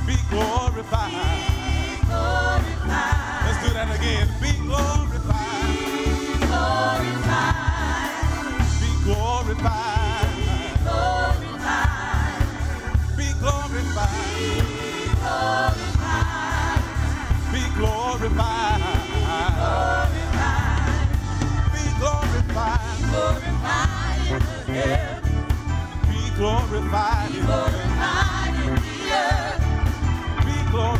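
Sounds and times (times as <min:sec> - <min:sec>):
band with heavy bass line: 0:00.0 - 0:30.9
gospel choir singing with vibrato: 0:00.0 - 0:30.9.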